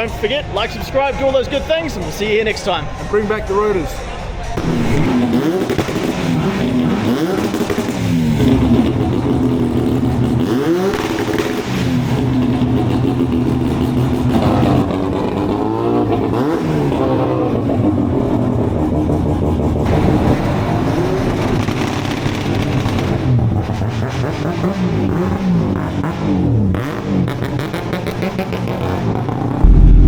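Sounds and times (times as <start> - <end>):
car engine revving: 4.6 - 30.0.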